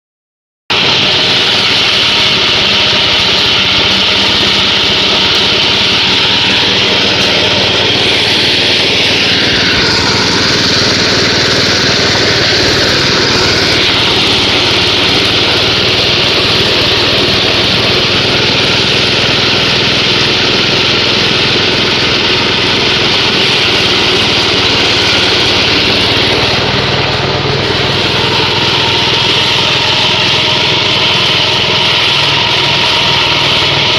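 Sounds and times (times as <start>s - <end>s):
fodder chopper engine running: 0.7s - 33.9s.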